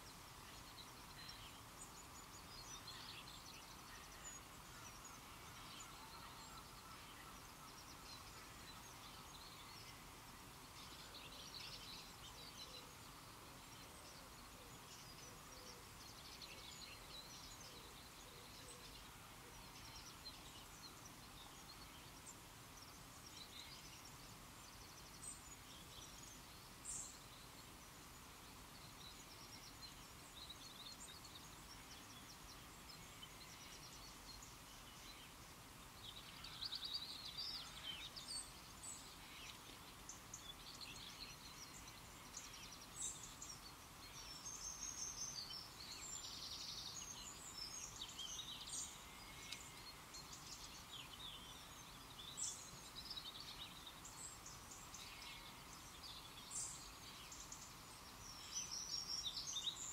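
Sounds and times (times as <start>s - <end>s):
small birds chirping: 0.0s - 59.9s
steady low hiss: 0.0s - 59.9s.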